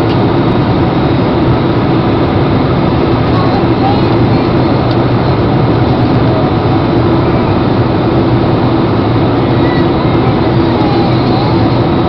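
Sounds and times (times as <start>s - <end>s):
jet engines and airflow rushing: 0.0s - 12.0s
low cabin hum: 0.0s - 12.0s.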